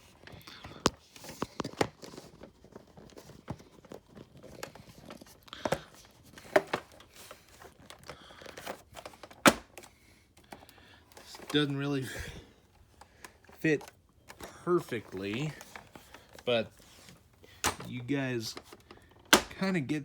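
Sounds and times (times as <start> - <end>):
plastic parts clicking and knocking: 0.0 - 19.8.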